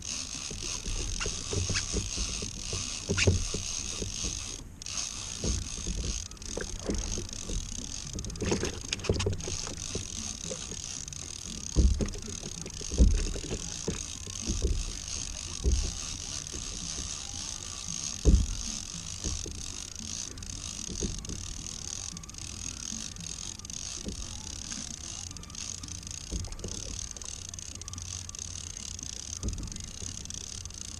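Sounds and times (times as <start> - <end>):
kayak knocks and creaks: 0.0 - 30.8.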